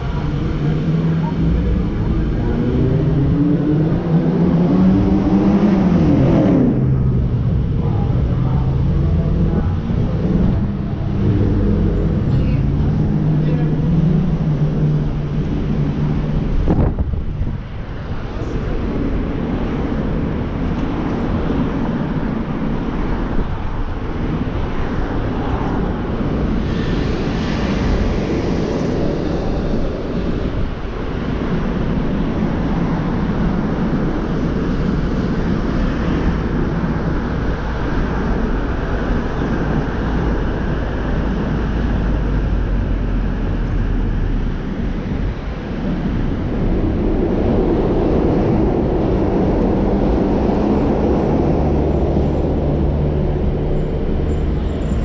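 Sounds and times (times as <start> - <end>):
car driving in traffic: 0.0 - 55.0.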